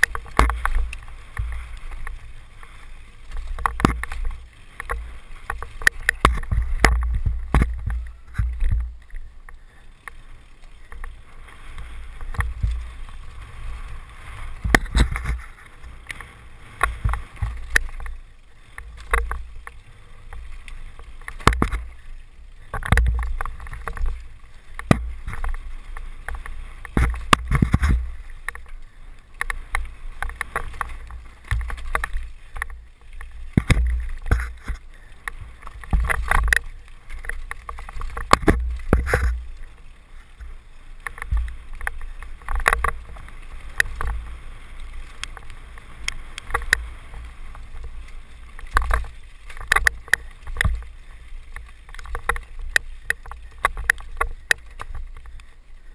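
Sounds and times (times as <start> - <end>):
bike knocking on rocks: 0.0 - 39.8, 40.4 - 55.5
mountain bike rattling: 0.0 - 55.9.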